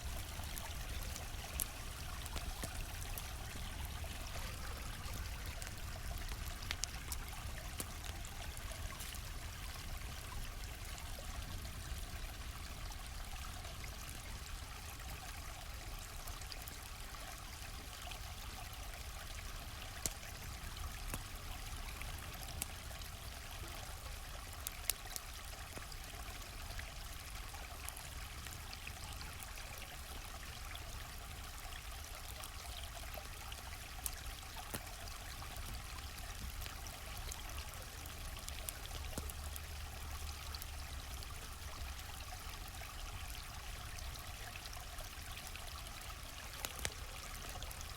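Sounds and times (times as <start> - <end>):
campfire crackling and popping: 0.0 - 47.9
stream flowing: 0.0 - 47.9.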